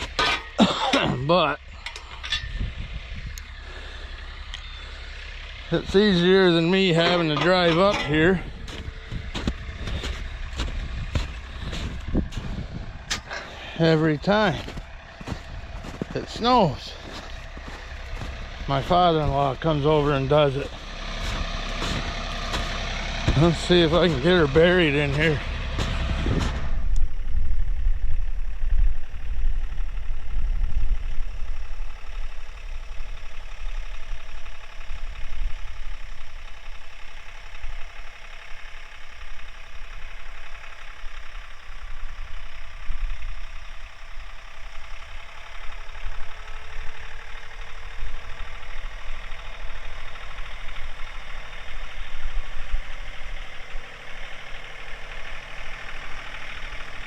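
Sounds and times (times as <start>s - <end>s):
faint whine: 0.0s - 57.0s
tractor diesel engine running: 0.0s - 57.0s.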